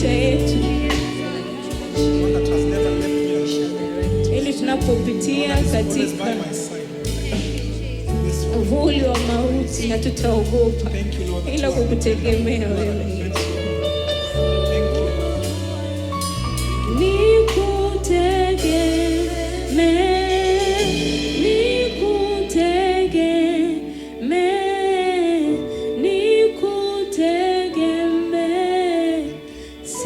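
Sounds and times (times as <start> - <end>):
instrumental backing: 0.0 - 30.0.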